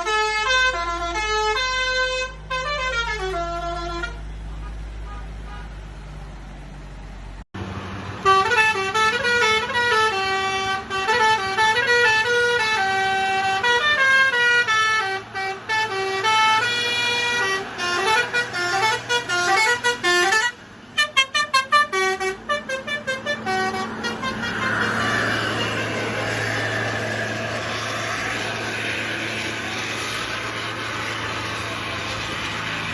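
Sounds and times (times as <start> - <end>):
multi-tone bus air horns: 0.0 - 5.9, 8.1 - 32.9.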